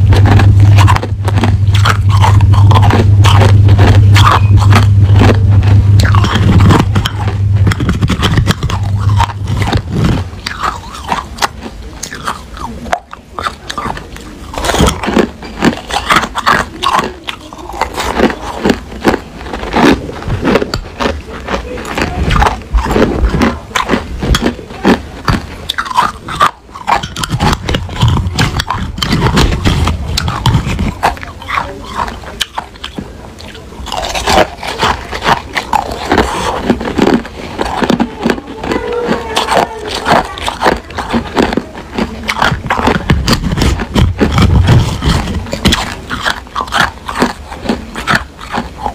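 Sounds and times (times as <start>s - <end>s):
crushed ice being chewed: 0.0s - 48.9s.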